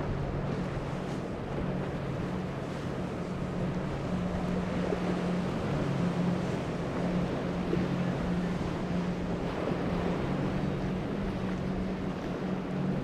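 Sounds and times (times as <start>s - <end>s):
outboard engines droning: 0.0s - 13.0s
wind buffeting microphone: 0.0s - 13.0s.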